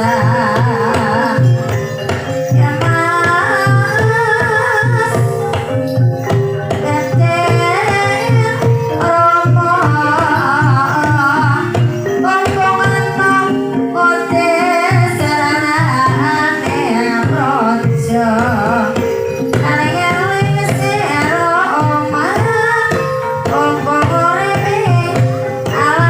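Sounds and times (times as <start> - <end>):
hand drum beat: 0.0 - 26.0
held pitched notes: 0.0 - 26.0
wavering sung melody: 0.0 - 26.0.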